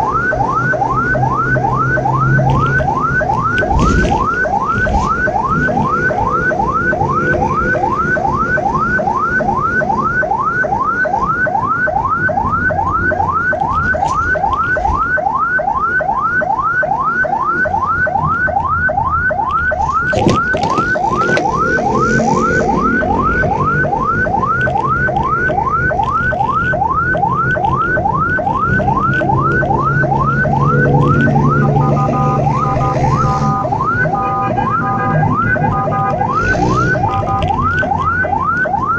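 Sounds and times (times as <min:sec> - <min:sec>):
ambulance siren yelping: 0:00.0 - 0:38.9
engine and road rumble: 0:00.0 - 0:38.9
two-note siren: 0:00.0 - 0:38.9.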